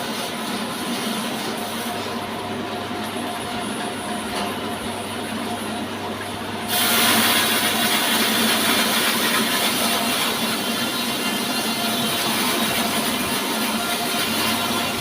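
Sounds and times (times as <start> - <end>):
band sawmill humming: 0.0 - 15.0.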